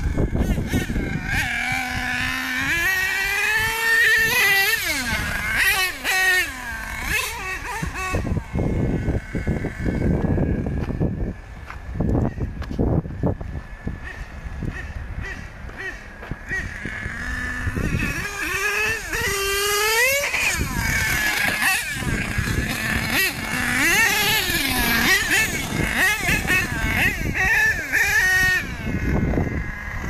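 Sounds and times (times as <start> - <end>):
toy truck engine revving: 0.0 - 11.4, 13.7 - 30.0.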